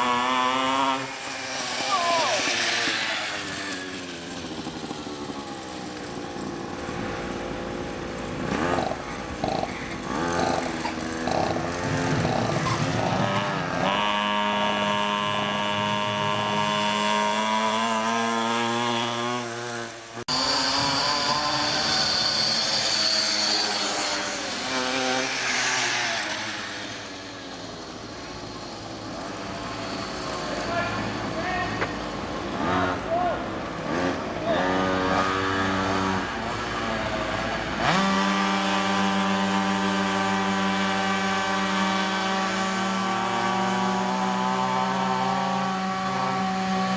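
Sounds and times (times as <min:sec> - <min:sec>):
small engine revving: 0:00.0 - 0:46.9.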